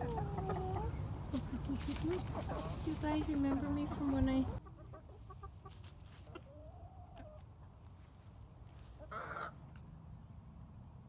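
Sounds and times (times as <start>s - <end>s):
hens clucking: 0.0s - 9.8s.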